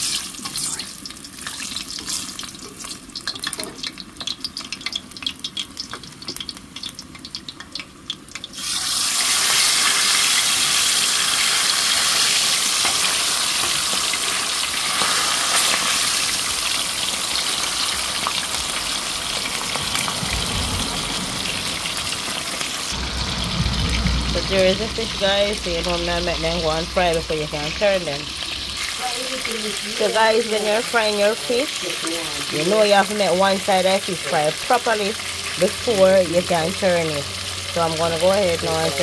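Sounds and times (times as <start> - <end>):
fish frying in oil: 0.0 - 39.0
hot oil crackling and spitting: 0.0 - 39.0.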